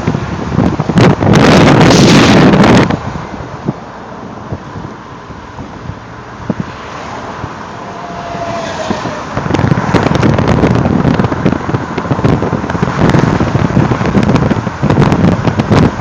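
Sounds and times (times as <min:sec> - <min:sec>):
road and wind noise: 0:00.0 - 0:16.0
wind buffeting microphone: 0:00.0 - 0:16.0.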